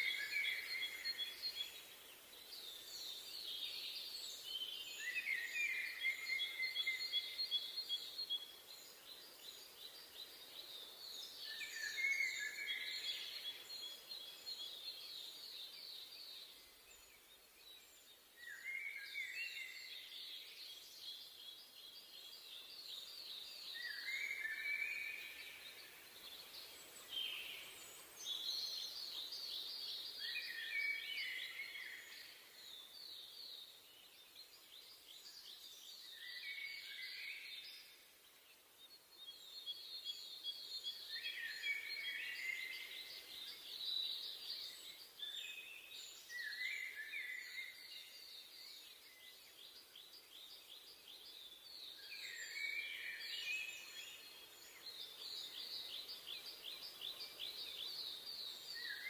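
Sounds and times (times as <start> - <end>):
faint steady hiss: 0.0 - 59.0
songbirds chirping and trilling: 0.0 - 59.0.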